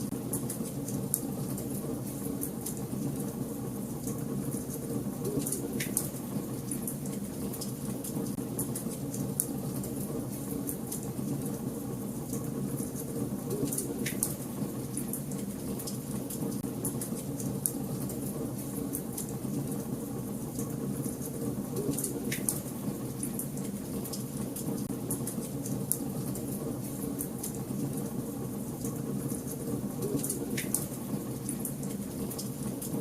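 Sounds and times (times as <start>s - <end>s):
fire roaring in fireplace: 0.0s - 33.0s.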